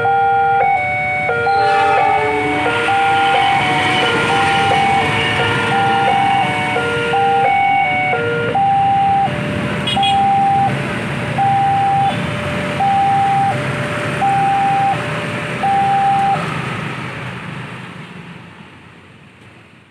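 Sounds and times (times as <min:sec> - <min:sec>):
level crossing two-tone alarm: 0:00.0 - 0:16.5.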